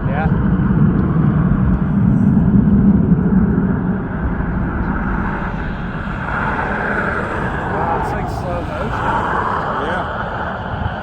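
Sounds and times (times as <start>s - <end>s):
low distant rumble: 0.0s - 11.0s
highway traffic noise: 1.3s - 11.0s.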